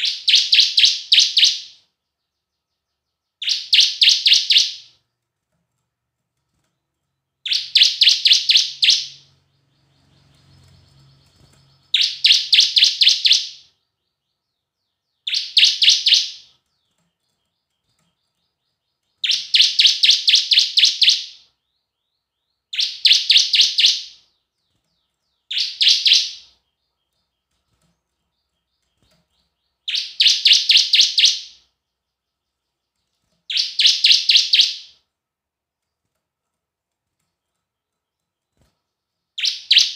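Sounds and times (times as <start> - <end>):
bird singing rapid sharp notes: 0.0 - 5.1, 6.5 - 35.1, 37.0 - 39.9.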